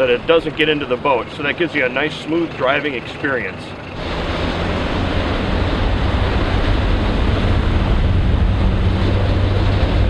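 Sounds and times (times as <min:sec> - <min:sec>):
outboard motor drone: 0:00.0 - 0:10.0
water rushing past boat: 0:00.0 - 0:10.0
wind buffeting microphone: 0:00.0 - 0:10.0.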